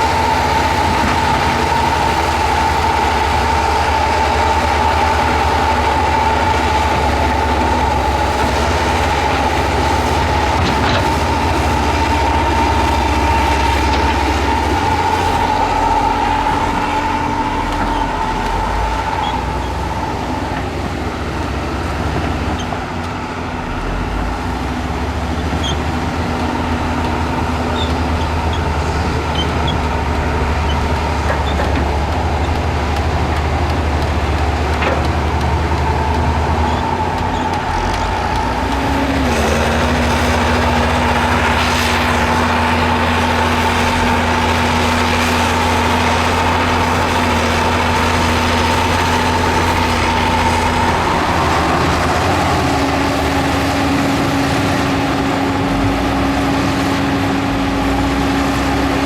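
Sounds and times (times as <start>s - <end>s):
steady high whine: 0.0s - 22.0s, 23.0s - 59.0s
diesel engines rumbling: 0.0s - 59.0s.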